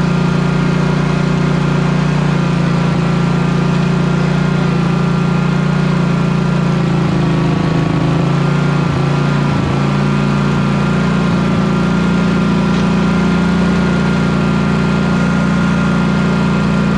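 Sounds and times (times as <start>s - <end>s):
mower engine running: 0.0s - 16.9s.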